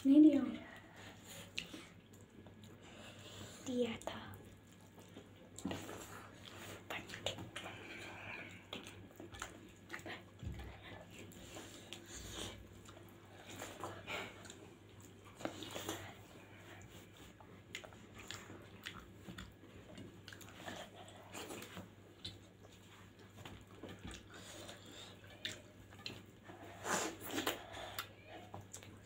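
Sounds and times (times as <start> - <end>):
soft chewing: 0.3 - 29.0.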